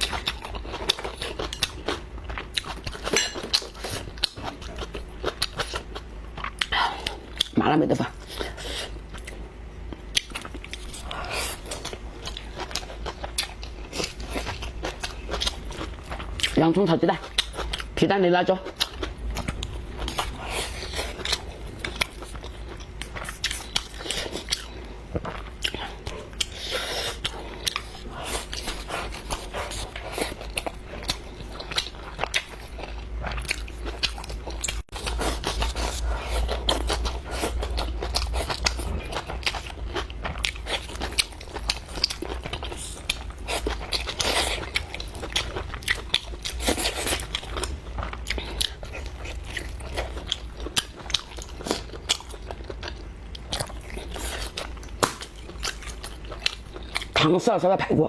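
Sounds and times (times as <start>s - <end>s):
person chewing crunchy food: 0.0s - 57.5s.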